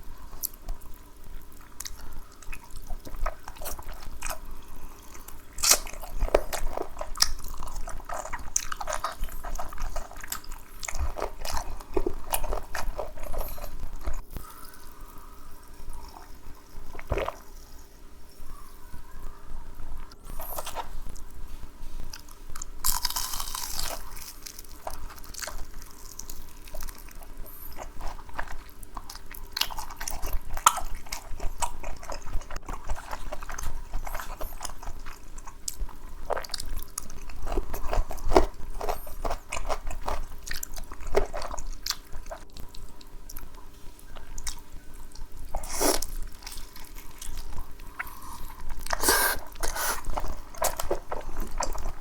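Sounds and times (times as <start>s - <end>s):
crunchy biting and chewing: 1.6s - 18.0s, 20.1s - 21.2s, 22.1s - 52.0s.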